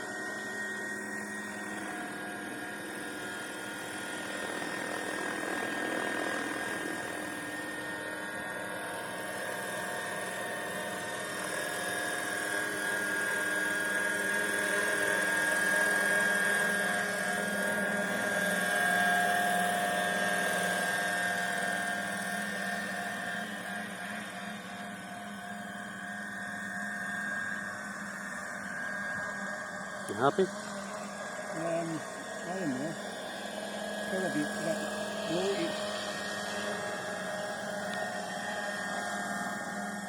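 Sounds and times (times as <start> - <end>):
model helicopter engine and rotor whine: 0.0 - 40.0.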